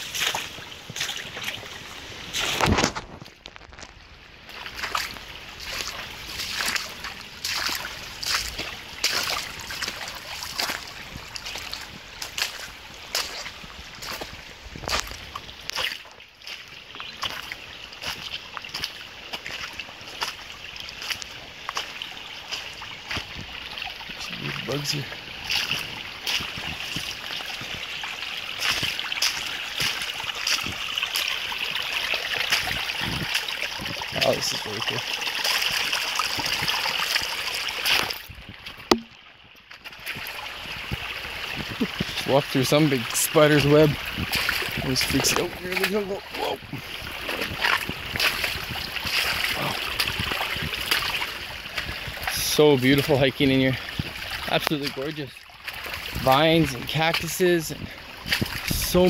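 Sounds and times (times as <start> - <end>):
footsteps splashing on wet stones: 0.0 - 59.0
stream trickling over rocks: 0.0 - 59.0.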